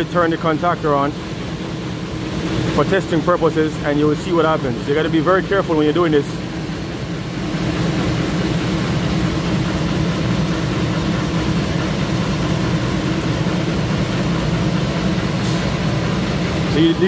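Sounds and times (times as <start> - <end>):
compressor humming: 0.0 - 17.0.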